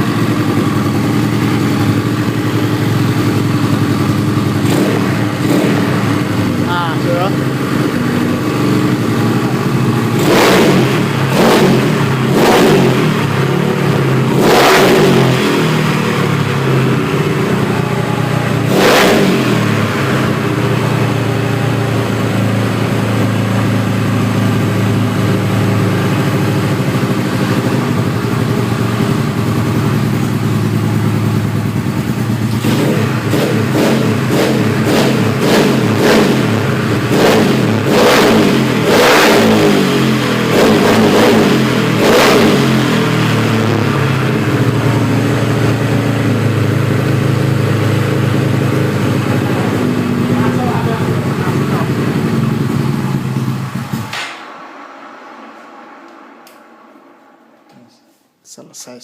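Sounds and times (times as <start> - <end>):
scooter engine idling: 0.0 - 54.2
engine throttle revs: 0.0 - 57.0.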